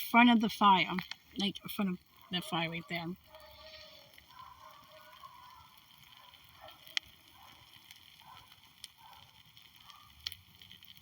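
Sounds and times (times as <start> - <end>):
fire crackling faintly: 0.0 - 11.0
fire pops: 0.0 - 11.0.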